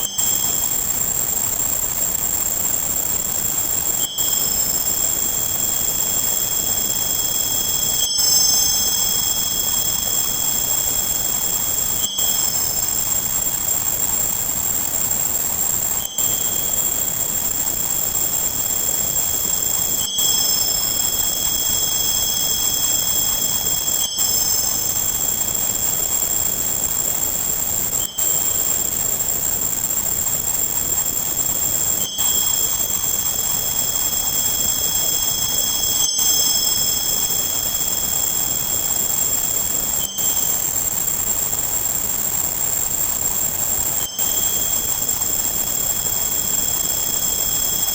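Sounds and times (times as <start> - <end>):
high steady tones: 0.0 - 47.9
steady hiss: 0.0 - 47.9.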